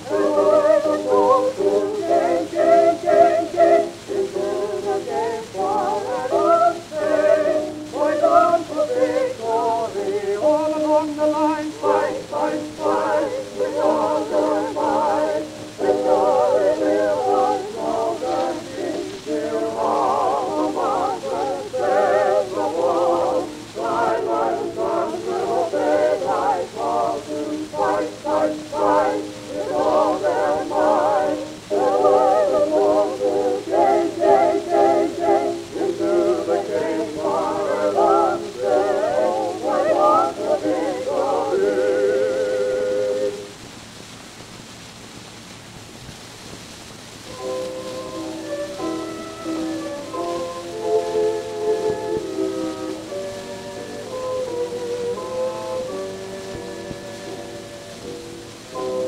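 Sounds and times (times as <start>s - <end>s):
vocal quartet singing: 0.0s - 43.5s, 47.3s - 59.0s
piano: 0.0s - 59.0s
record surface hiss: 0.0s - 59.0s.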